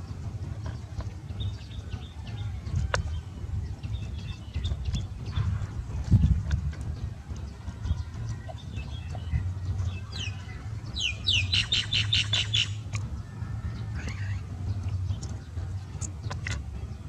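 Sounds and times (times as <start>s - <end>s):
bird chirps: 0.0s - 6.3s, 7.5s - 17.0s
low rumble: 0.0s - 17.0s.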